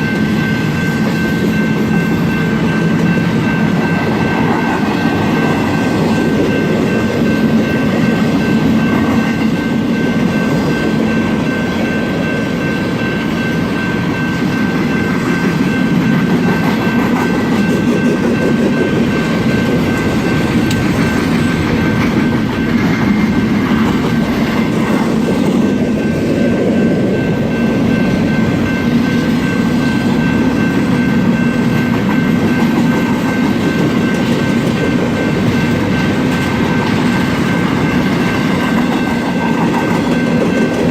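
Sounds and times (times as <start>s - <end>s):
train clickety-clack: 0.0s - 40.9s.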